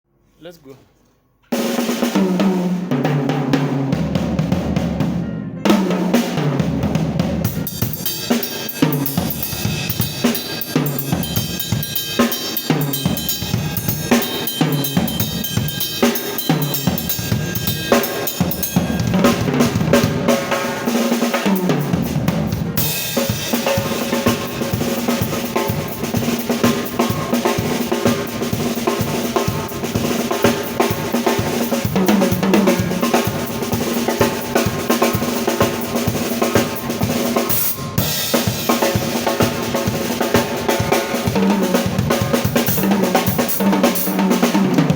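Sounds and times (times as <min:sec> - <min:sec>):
drum kit solo: 0:01.5 - 0:44.9
cymbal wash: 0:07.5 - 0:44.1.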